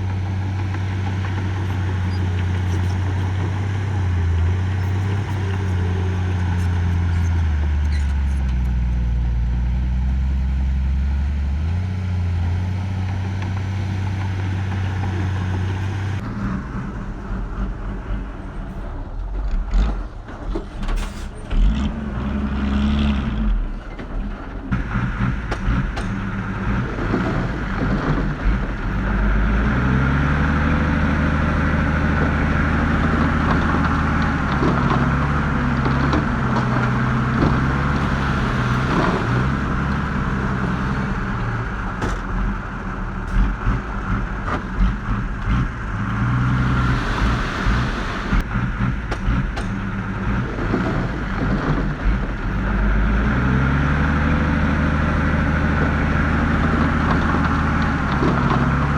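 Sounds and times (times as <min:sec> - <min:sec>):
diesel engine revving under load: 0:00.0 - 0:58.9.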